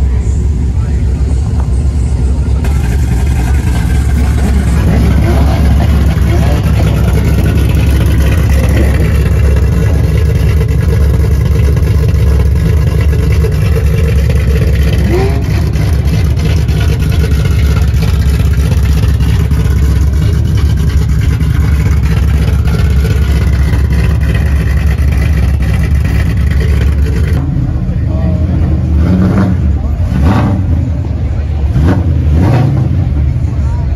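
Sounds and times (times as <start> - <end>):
car engine idling: 0.0 - 30.1, 30.7 - 32.3.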